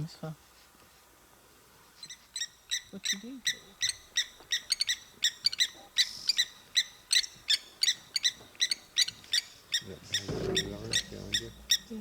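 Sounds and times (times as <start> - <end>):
bird calling sharp ringing notes: 2.4 - 12.0.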